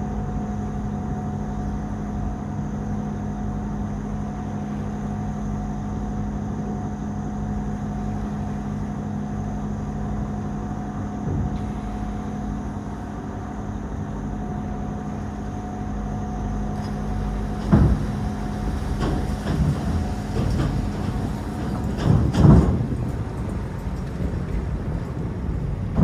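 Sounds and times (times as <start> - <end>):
ferry engine hum: 0.0 - 26.0.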